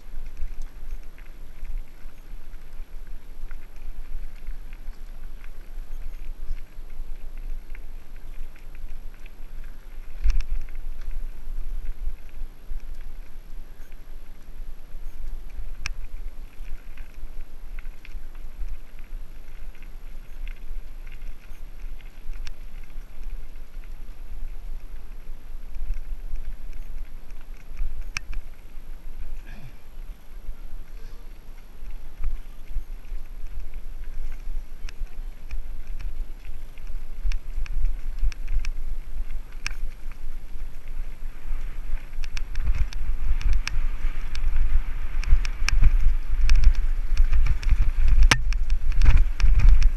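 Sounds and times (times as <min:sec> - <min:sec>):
bike clicking and rattling: 0:00.0 - 0:49.9
wind buffeting microphone: 0:00.0 - 0:49.9.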